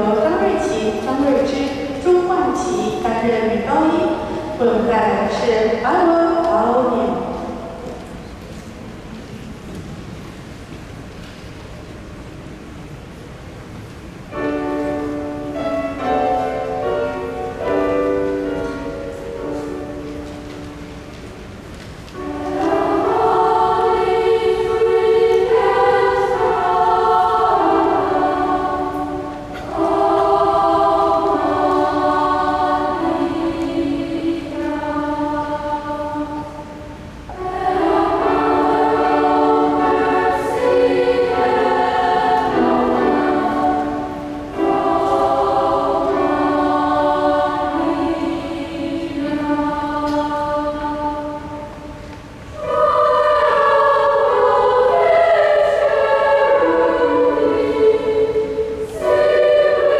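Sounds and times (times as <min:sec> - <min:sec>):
choir singing sustained chords: 0:00.0 - 0:09.1, 0:14.3 - 0:59.9.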